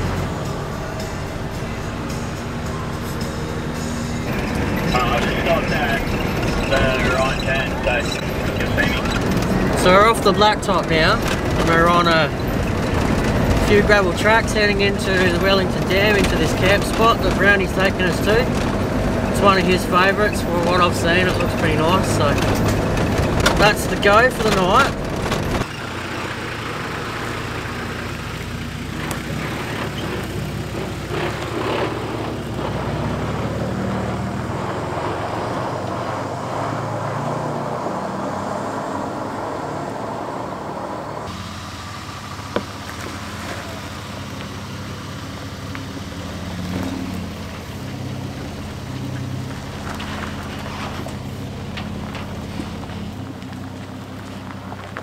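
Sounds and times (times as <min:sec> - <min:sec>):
vehicles on gravel track: 0:00.0 - 0:55.0.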